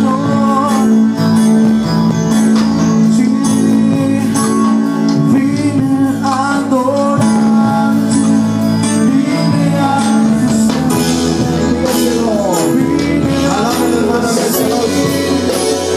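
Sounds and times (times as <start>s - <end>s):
instrumental accompaniment: 0.0s - 15.9s
person singing: 0.0s - 15.9s.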